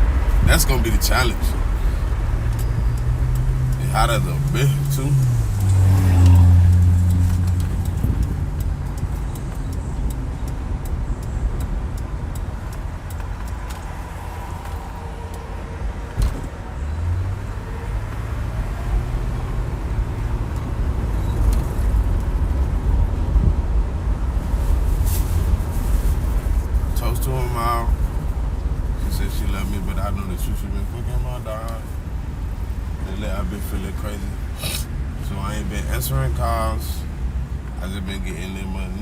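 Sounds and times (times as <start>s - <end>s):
road and engine rumble: 0.0s - 39.0s.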